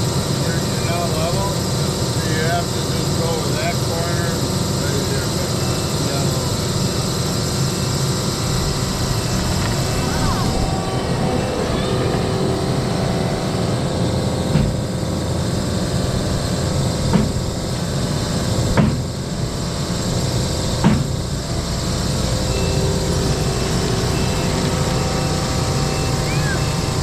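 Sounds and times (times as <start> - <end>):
engine running under load: 0.0 - 27.0.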